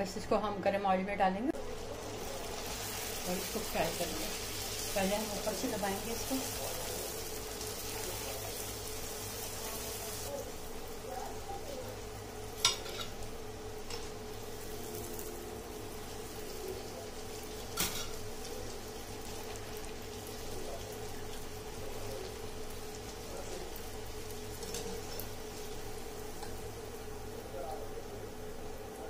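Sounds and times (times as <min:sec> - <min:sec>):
steady hum: 0:00.0 - 0:29.0
bread frying in hot oil: 0:01.6 - 0:29.0.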